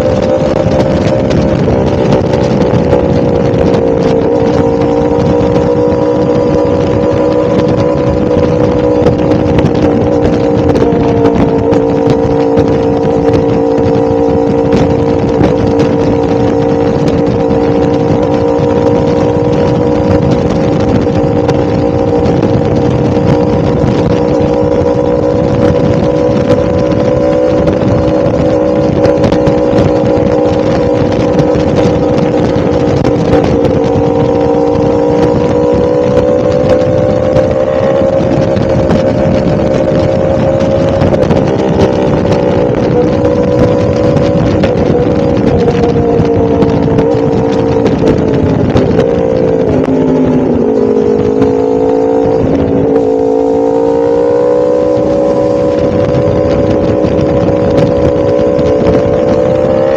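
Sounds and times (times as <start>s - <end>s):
motorcycle engine cruising: 0.0s - 59.9s
rush of riding noise: 0.0s - 59.9s.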